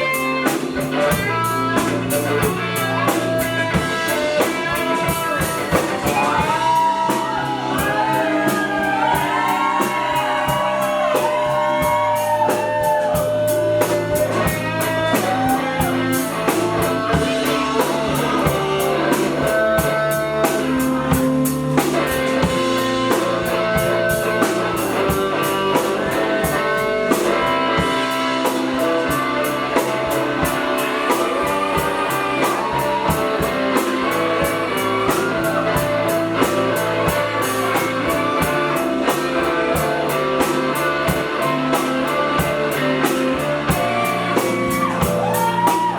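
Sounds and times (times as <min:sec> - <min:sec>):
bass: 0:00.0 - 0:45.9
drum kit: 0:00.0 - 0:45.9
lead guitar with bending notes: 0:00.0 - 0:45.9.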